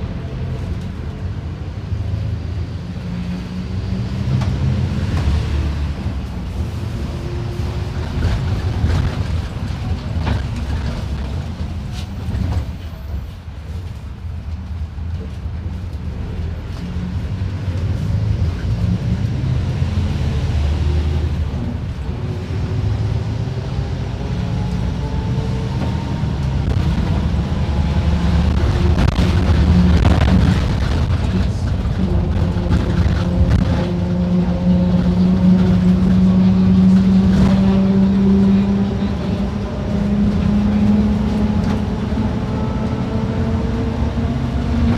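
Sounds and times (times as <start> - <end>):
bus diesel engine under load: 0.0 - 44.9.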